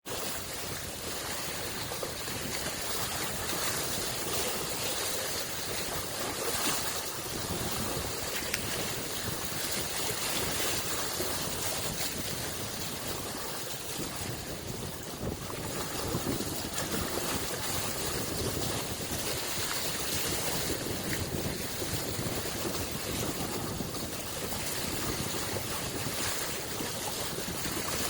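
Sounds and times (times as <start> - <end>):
small waves washing on shore: 0.0 - 28.0.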